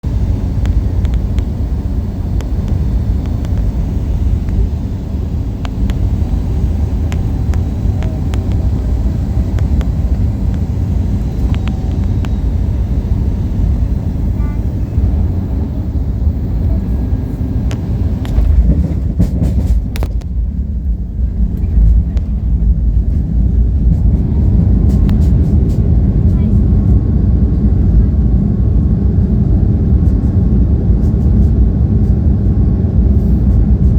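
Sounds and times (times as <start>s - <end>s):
aircraft cabin rumble: 0.0s - 33.9s.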